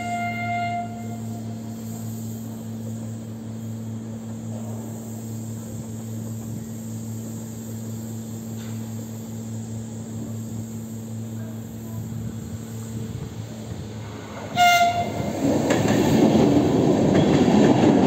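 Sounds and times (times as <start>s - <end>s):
electric train droning: 0.0s - 18.0s.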